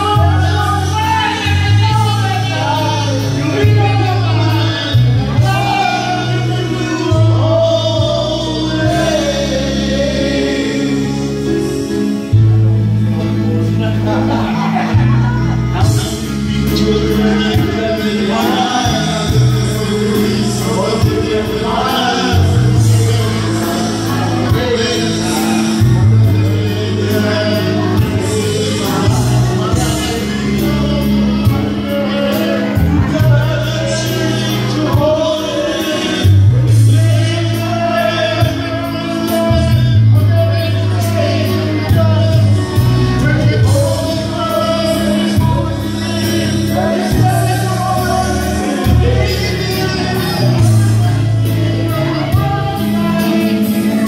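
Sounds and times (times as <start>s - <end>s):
backing track with bass line: 0.0s - 54.0s
man singing into microphone: 0.0s - 54.0s.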